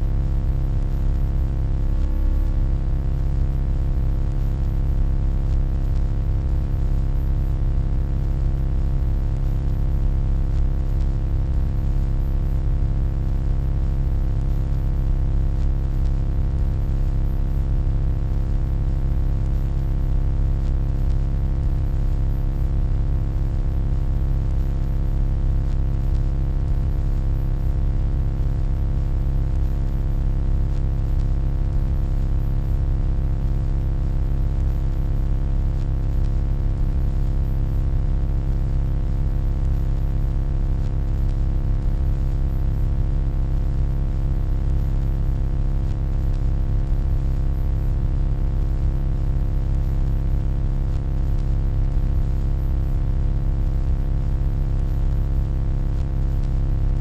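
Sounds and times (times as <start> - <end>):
electronic hum: 0.0 - 38.6, 40.5 - 46.5, 49.8 - 50.1, 50.9 - 51.5.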